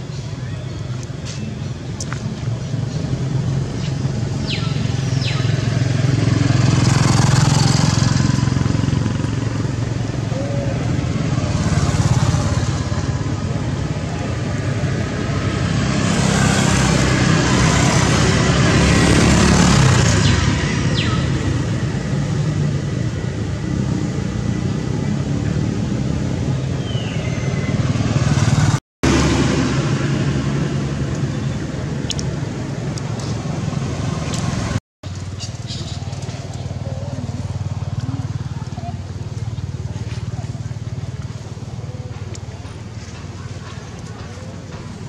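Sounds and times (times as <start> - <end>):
low engine rumble: 0.0 - 45.0
road traffic noise: 0.0 - 45.0.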